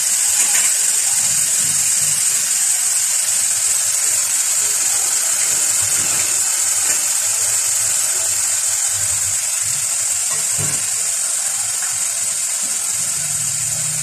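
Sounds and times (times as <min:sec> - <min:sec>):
onion and spices sizzling in oil: 0:00.0 - 0:14.0.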